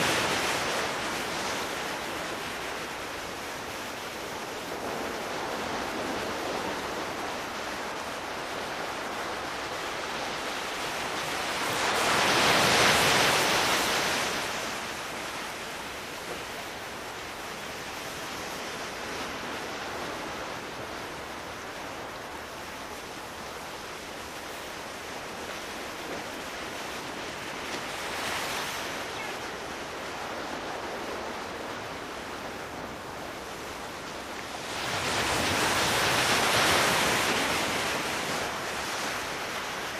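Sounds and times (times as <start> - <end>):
waves washing on shore: 0.0 - 39.9.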